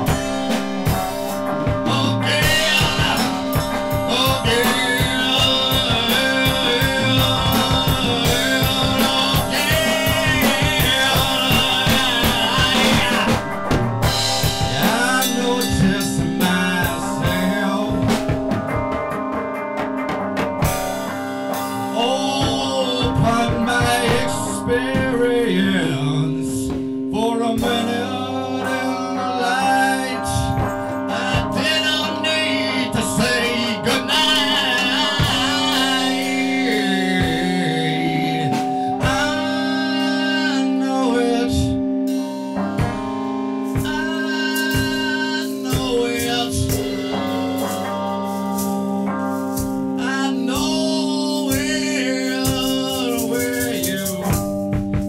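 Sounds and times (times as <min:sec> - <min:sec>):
person singing: 0:00.0 - 0:19.3, 0:20.6 - 0:55.0
guitar: 0:00.0 - 0:55.0
held steady chords: 0:00.0 - 0:55.0.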